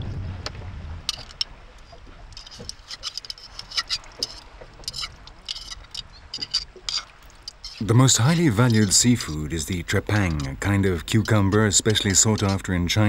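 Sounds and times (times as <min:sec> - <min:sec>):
wind and water rumble: 0:00.0 - 0:13.0
knife scraping oyster shell: 0:01.1 - 0:01.5, 0:02.4 - 0:13.0.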